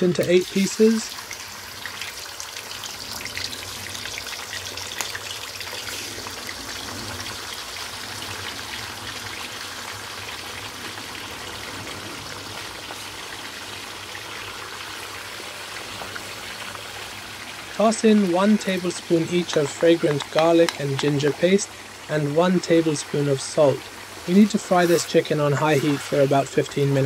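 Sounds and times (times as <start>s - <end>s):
chicken sizzling in hot oil: 0.0s - 27.0s.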